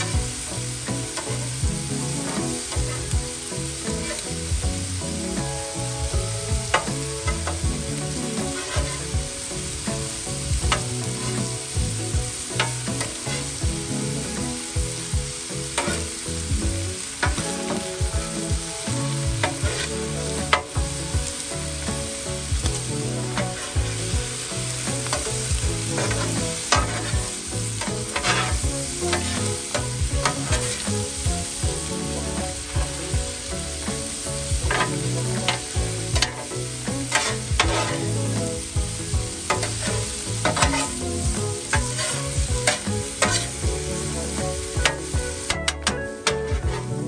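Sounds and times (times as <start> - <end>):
food sizzling on a griddle: 0.0 - 47.0
metal spatula scraping griddle: 0.0 - 47.0.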